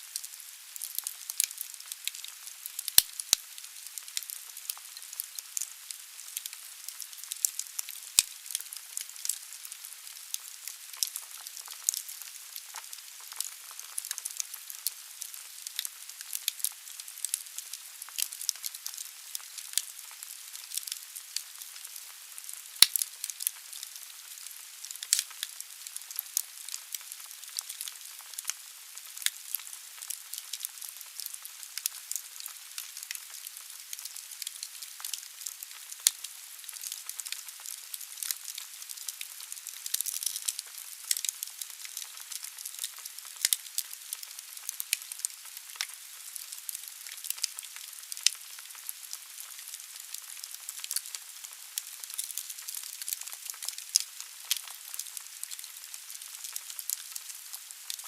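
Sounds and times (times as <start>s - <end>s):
logs burning in a fireplace: 0.1s - 57.3s.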